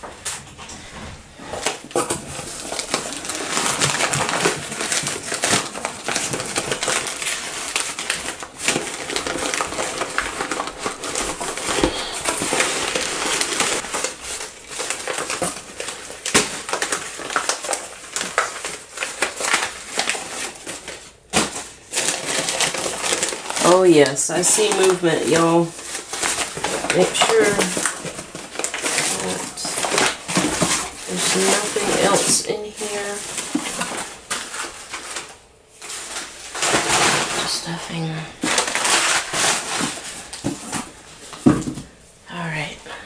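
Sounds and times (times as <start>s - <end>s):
newspaper rustling and crinkling: 0.0s - 42.6s.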